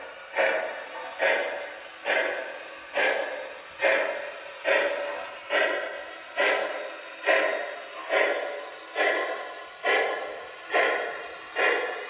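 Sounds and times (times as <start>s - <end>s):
model locomotive steam chuffs: 0.0s - 12.0s.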